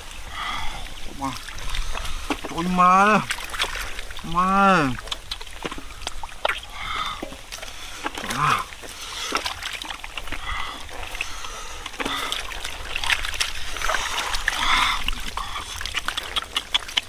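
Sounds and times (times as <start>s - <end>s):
catfish slapping and squelching: 0.0s - 17.0s.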